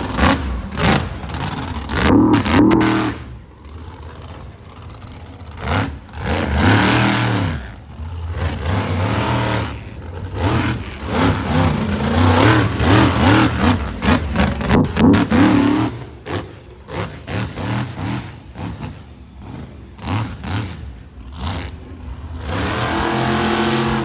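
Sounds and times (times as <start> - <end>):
monster truck engine revving: 0.0 - 24.0.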